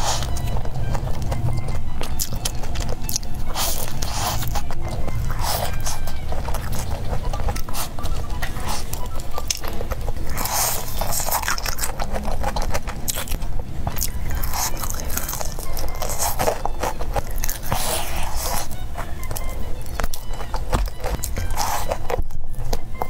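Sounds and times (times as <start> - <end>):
crunching fried chicken: 0.0 - 23.0.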